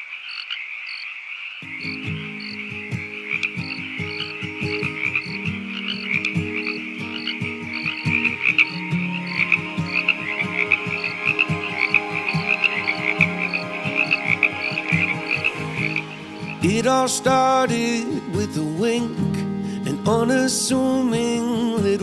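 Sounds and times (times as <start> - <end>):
frogs croaking: 0.0 - 21.7
music with low notes and soft beat: 1.8 - 22.0.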